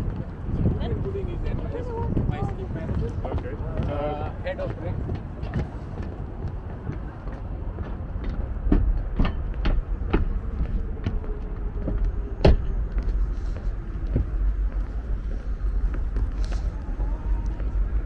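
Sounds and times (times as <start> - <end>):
footsteps on pavement: 0.0 - 18.0
low steady rumble: 0.0 - 18.0.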